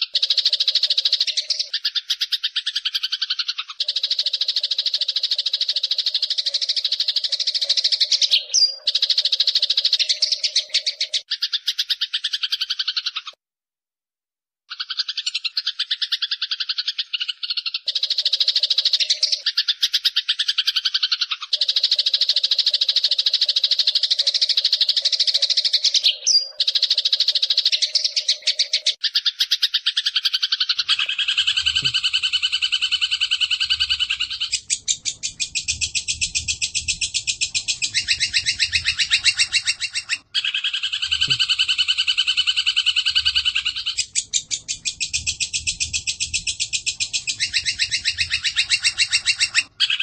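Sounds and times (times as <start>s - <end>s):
bird chattering trill: 0.0s - 13.4s, 14.7s - 50.0s.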